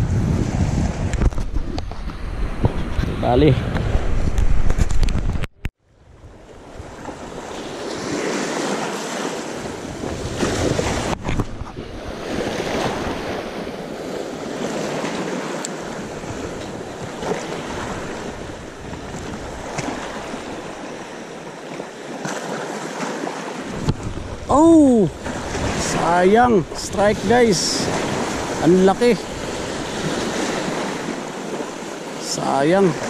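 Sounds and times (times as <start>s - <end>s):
wind on microphone: 0.0s - 8.6s, 9.5s - 21.3s, 23.6s - 32.0s
small waves breaking on shore: 5.8s - 33.0s.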